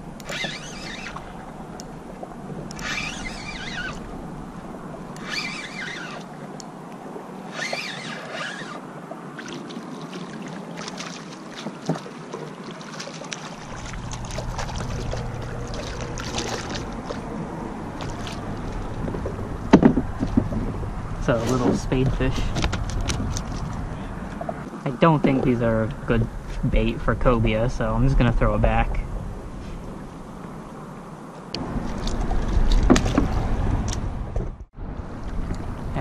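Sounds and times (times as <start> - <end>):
water splashing and sloshing: 0.0 - 26.6, 29.1 - 36.0.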